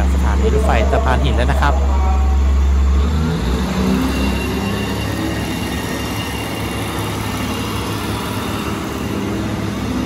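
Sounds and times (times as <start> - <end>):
diesel train engines running: 0.0 - 10.0.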